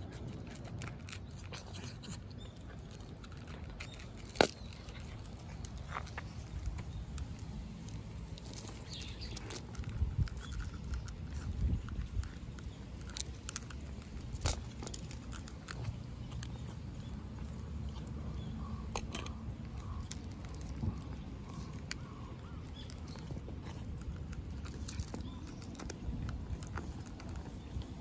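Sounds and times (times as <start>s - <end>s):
cats crunching dry kibble: 0.0s - 28.0s
low outdoor rumble: 0.0s - 28.0s.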